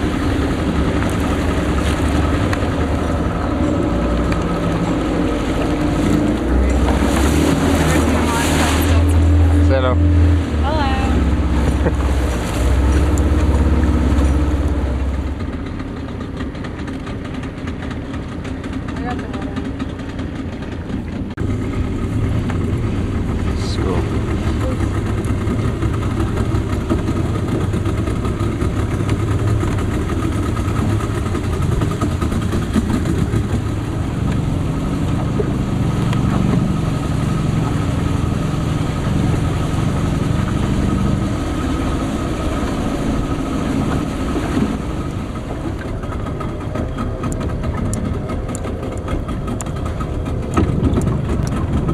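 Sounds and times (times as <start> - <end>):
motorboat engine running: 0.0 - 51.9.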